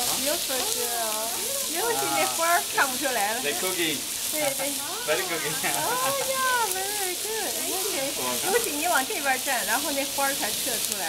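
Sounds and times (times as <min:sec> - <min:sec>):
food sizzling: 0:00.0 - 0:11.0
voices talking: 0:00.0 - 0:11.0.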